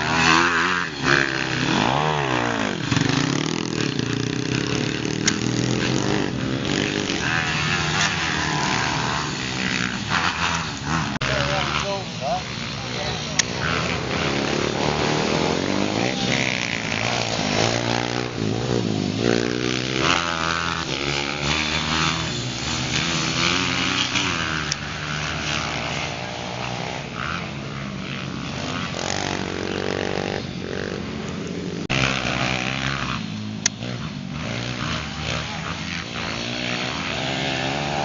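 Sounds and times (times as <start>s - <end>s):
dirt bike engines revving: 0.0s - 38.0s.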